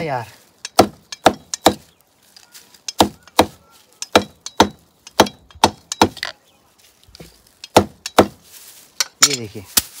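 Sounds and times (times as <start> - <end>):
machete chopping broom bristles: 0.5 - 2.0, 2.7 - 6.4, 7.1 - 10.0.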